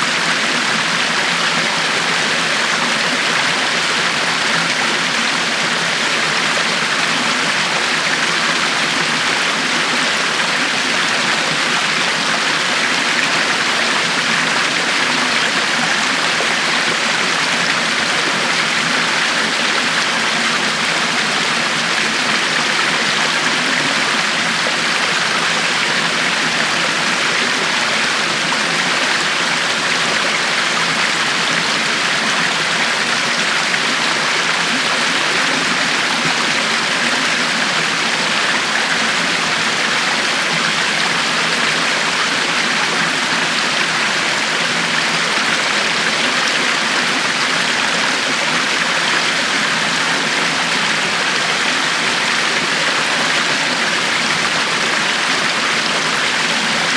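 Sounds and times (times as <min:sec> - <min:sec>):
river water flowing over rocks: 0:00.0 - 0:56.9.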